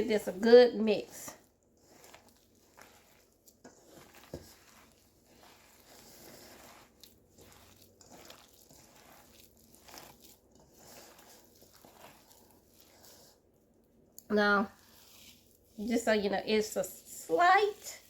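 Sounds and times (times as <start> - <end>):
hands squishing ground meat: 0.0 - 16.7.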